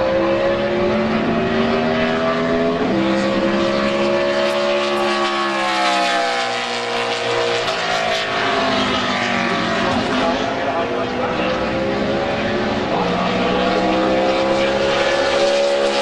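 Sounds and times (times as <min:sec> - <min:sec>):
race car engine: 0:00.0 - 0:16.0
second car engine: 0:00.0 - 0:16.0.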